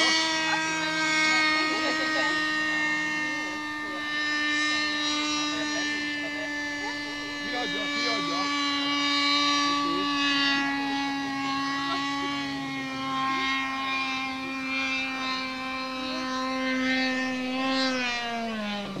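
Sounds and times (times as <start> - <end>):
model jet engine whine: 0.0 - 19.0.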